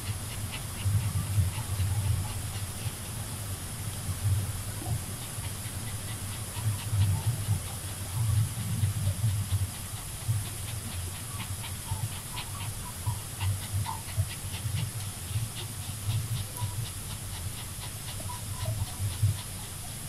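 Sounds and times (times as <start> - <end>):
dog panting: 0.0 - 20.0
steady hiss and low hum: 0.0 - 20.0.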